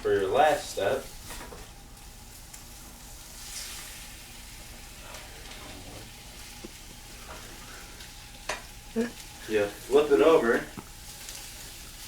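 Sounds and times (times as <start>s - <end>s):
omelet sizzling in frying pan: 0.0s - 12.0s.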